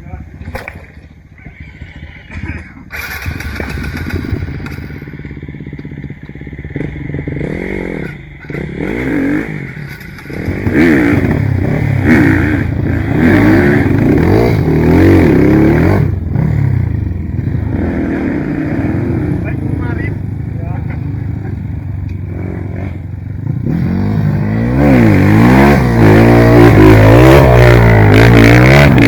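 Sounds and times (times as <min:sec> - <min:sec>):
motorcycle engine revving: 0:00.2 - 0:29.0.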